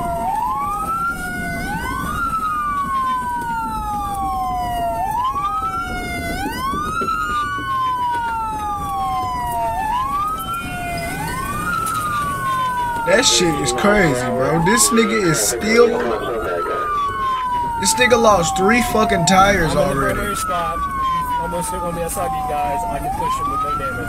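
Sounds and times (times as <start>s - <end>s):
police sirens wailing: 0.0s - 24.0s.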